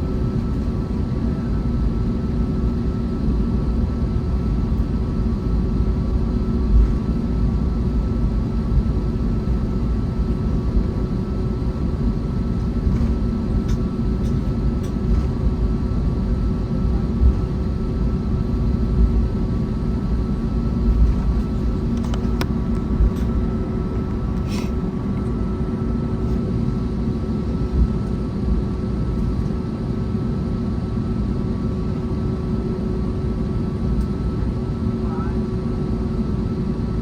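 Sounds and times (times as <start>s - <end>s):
airplane cabin engine drone: 0.0s - 37.0s.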